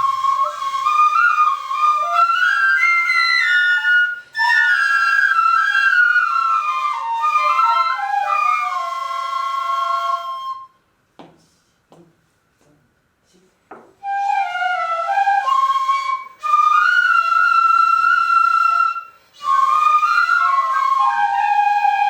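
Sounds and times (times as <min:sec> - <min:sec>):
bamboo flutes playing melody: 0:00.0 - 0:10.8, 0:14.0 - 0:22.0.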